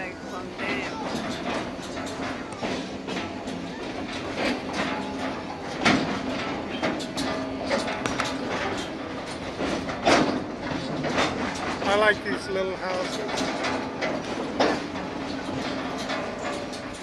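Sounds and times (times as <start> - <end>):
train car rattling: 0.0 - 17.0
train hum: 0.0 - 17.0
train wheels clacking on rails: 0.0 - 17.0.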